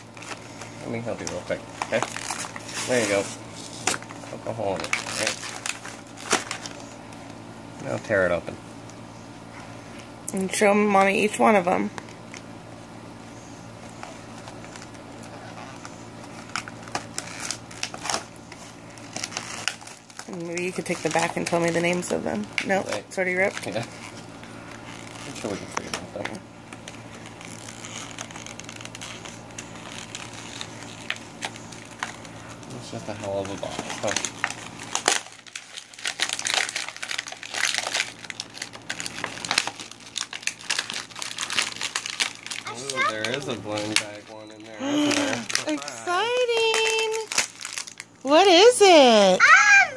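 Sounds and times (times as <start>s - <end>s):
plastic bag crinkling: 0.0s - 7.2s, 13.8s - 49.0s
faint steady hum: 0.0s - 49.9s.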